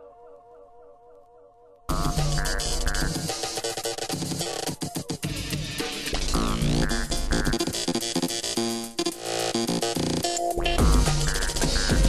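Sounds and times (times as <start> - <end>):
fast electronic dance music: 1.9 - 12.0.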